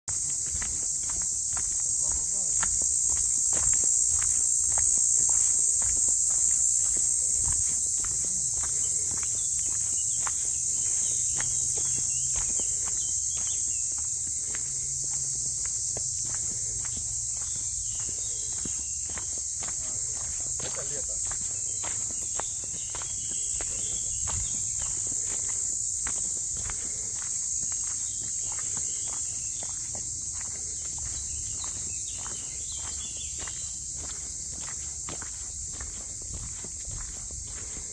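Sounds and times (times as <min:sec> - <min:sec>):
footsteps on forest floor: 0:00.1 - 0:37.9
insects chorus: 0:00.1 - 0:37.9.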